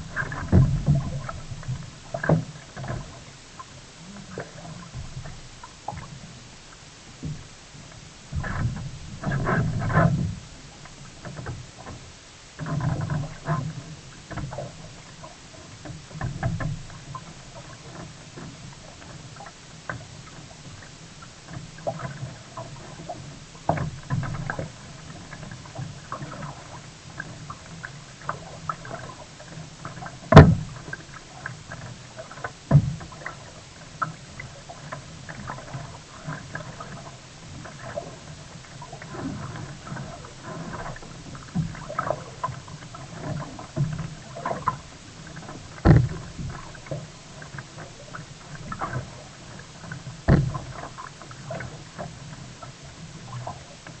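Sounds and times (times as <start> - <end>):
paddle splashing water: 0.0 - 54.0.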